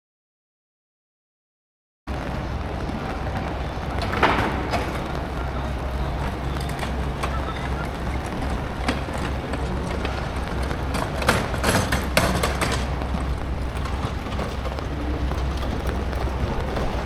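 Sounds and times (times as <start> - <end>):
traffic rumble: 2.1 - 17.0.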